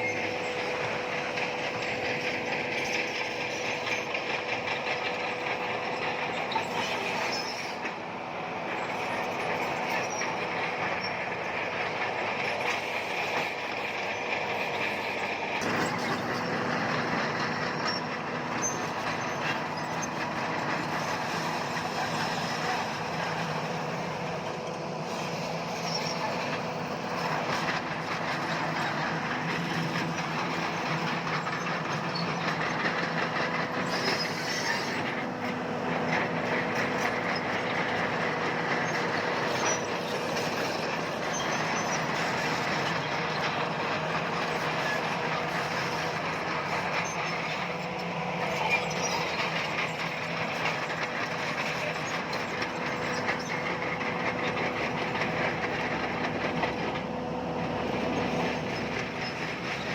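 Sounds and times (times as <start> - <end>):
diesel engine drone: 0.0 - 59.9
steel tracks clattering: 0.0 - 59.9.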